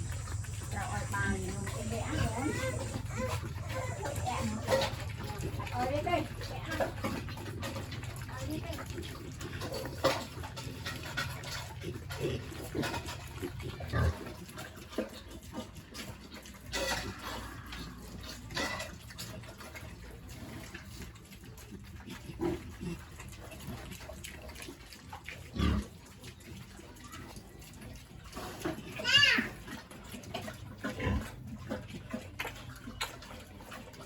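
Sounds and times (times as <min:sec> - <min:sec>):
pigs grunting: 0:00.0 - 0:34.0.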